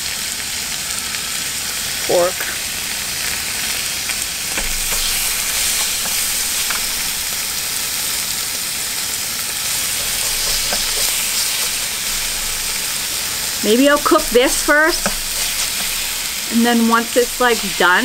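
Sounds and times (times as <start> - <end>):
meat sizzling on grill: 0.0 - 18.0.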